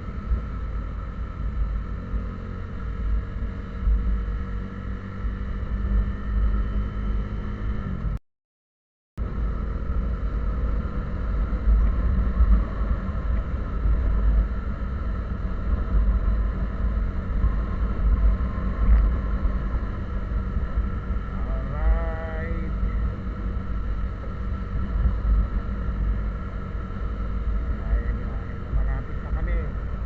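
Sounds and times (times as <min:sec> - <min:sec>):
vehicle engine and road noise: 0:00.0 - 0:08.2, 0:09.2 - 0:30.0.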